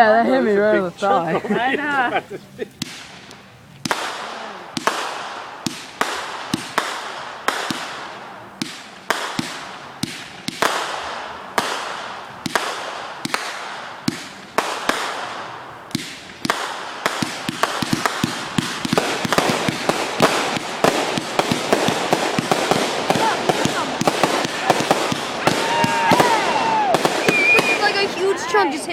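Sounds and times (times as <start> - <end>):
fireworks bangs and pops: 2.6 - 28.4.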